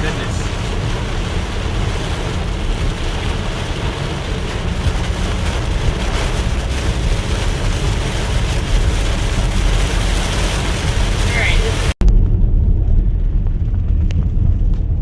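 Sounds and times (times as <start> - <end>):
storm wind rushing around car: 0.0 - 15.0
wind buffeting microphone: 0.0 - 15.0.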